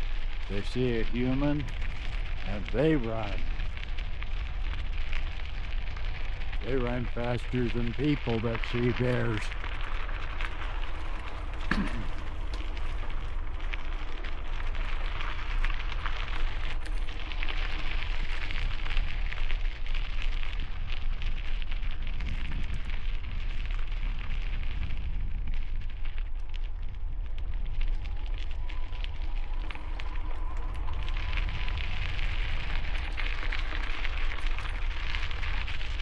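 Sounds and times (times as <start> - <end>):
bicycle tyres on gravel: 0.0 - 36.0
wind buffeting microphone: 0.0 - 36.0.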